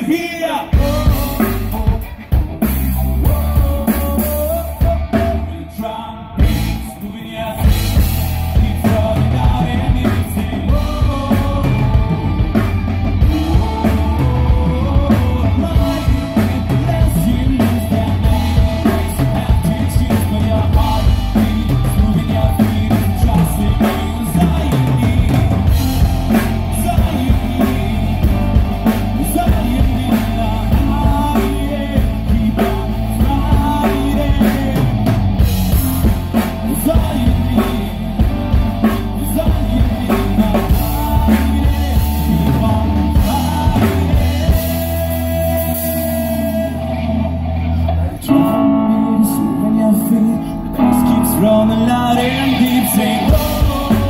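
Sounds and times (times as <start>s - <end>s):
drum kit: 0.0s - 54.0s
electric guitars: 0.0s - 54.0s
man singing: 0.0s - 54.0s.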